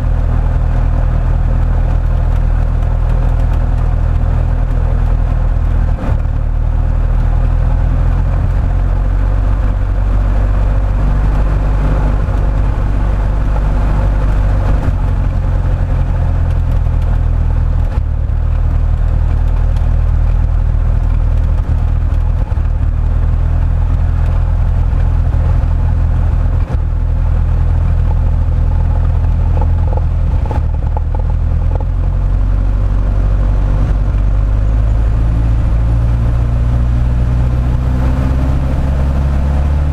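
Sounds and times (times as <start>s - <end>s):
biplane engine and propeller drone: 0.0s - 39.9s.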